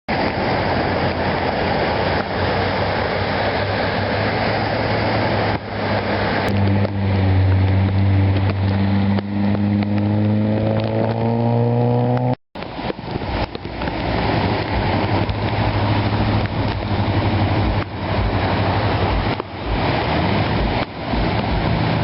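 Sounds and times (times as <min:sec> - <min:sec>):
steady rushing noise: 0:00.1 - 0:22.0
vehicle engine hum speeding up: 0:00.1 - 0:22.0.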